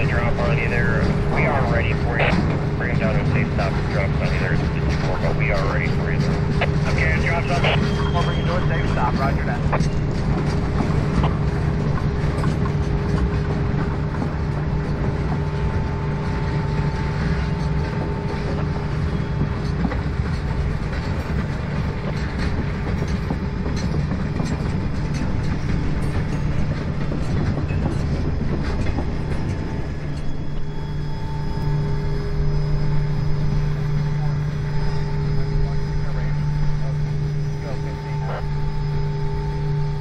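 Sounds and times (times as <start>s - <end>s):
freight train rolling past: 0.0s - 40.0s
train wheel clicks: 2.4s - 39.5s.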